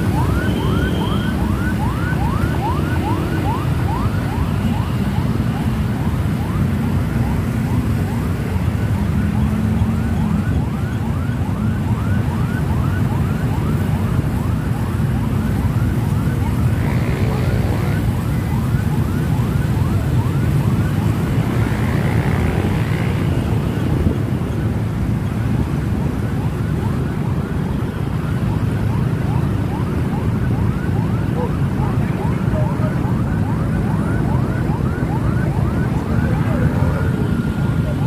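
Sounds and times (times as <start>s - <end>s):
rumble of motorcycle engines: 0.0s - 38.0s
siren yelping: 0.0s - 38.0s.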